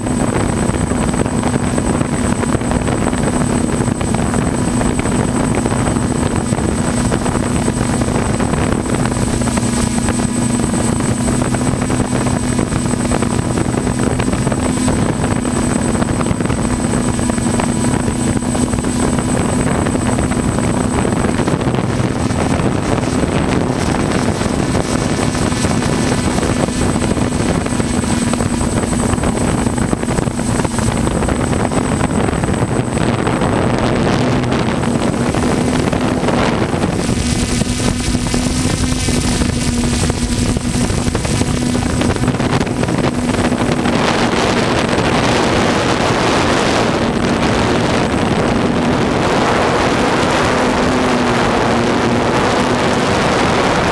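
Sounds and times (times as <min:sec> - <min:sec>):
drone propellers humming: 0:00.0 - 0:53.9.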